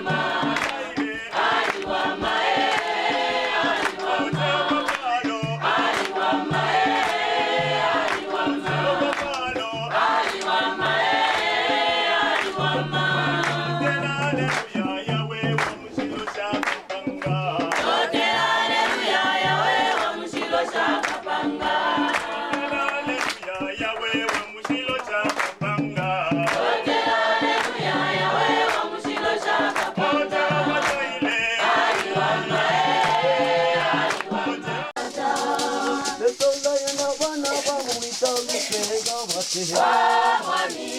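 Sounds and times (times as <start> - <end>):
choir singing gospel: 0.0 - 40.9.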